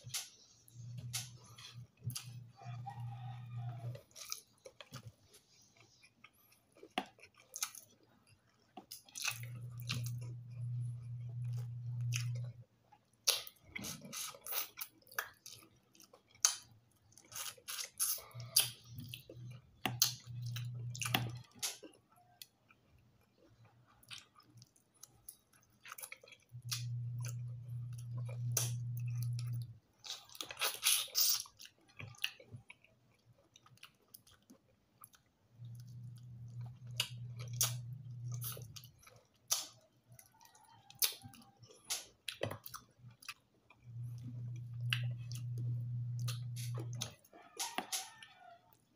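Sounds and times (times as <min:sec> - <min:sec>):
low steady hum: 0:00.0 - 0:14.7, 0:15.4 - 0:31.0, 0:35.0 - 0:40.5, 0:41.3 - 0:48.9
chewing and crunching food: 0:00.0 - 0:48.9.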